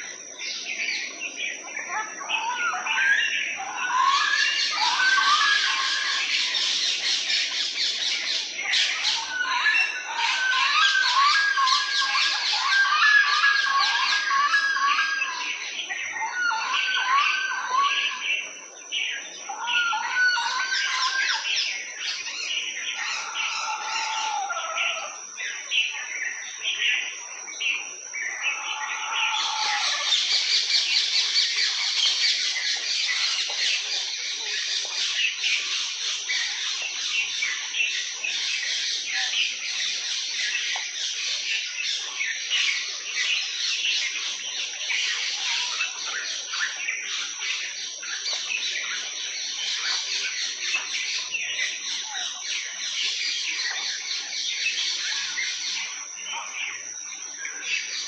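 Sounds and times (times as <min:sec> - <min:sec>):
small birds chirping chorus: 0:00.0 - 0:58.0
steady high-pitched tone: 0:00.0 - 0:58.0.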